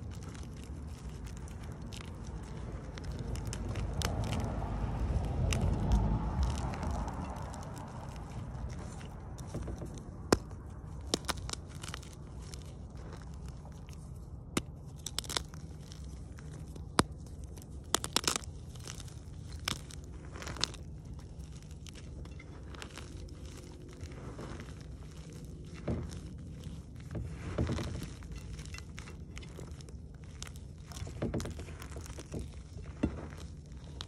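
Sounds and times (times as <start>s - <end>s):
chalk crushing and crackling: 0.0s - 34.0s
low steady hum: 0.0s - 34.0s.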